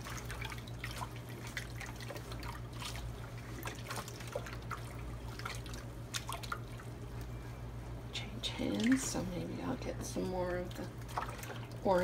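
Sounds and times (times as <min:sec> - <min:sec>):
small splashes: 0:00.0 - 0:07.3, 0:08.5 - 0:12.0
liquid dripping into tub: 0:00.0 - 0:07.4, 0:08.5 - 0:12.0.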